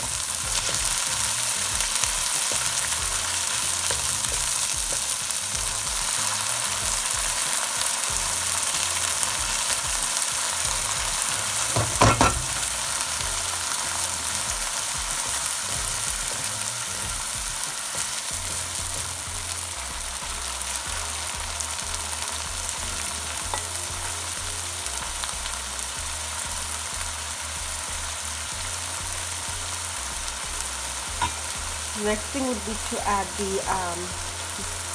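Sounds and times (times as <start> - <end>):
paste sizzling in hot oil: 0.0 - 34.9.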